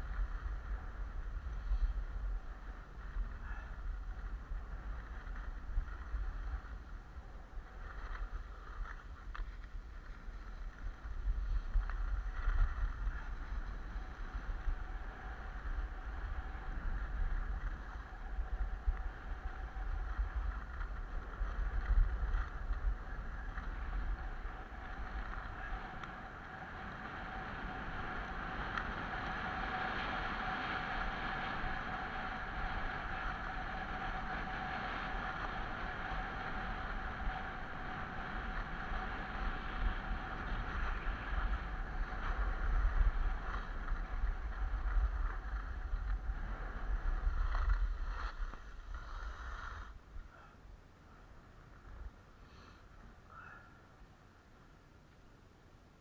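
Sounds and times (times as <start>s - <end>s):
wind buffeting microphone: 0.0s - 50.4s
skis hissing over snow: 0.1s - 25.8s, 26.7s - 50.1s, 52.4s - 52.8s.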